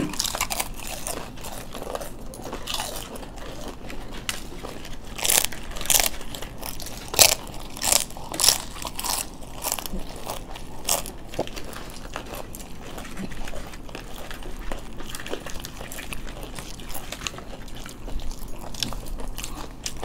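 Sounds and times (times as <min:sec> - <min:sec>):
people chewing crunchy food: 0:00.0 - 0:20.0.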